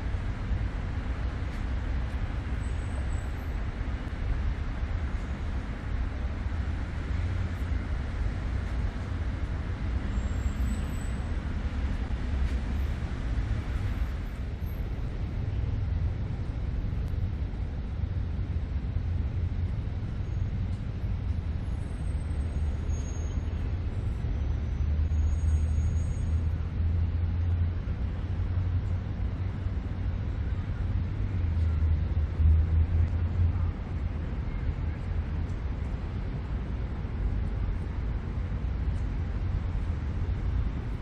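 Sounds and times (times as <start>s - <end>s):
city road traffic rumble: 0.0s - 41.0s.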